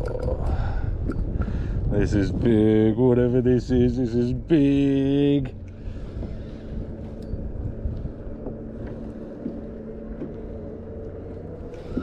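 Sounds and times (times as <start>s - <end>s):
water and wind rumble: 0.0s - 12.0s.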